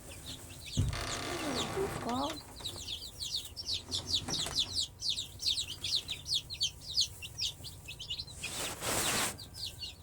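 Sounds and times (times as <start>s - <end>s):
chicks peeping: 0.0s - 10.0s
chicks peeping together: 0.0s - 10.0s.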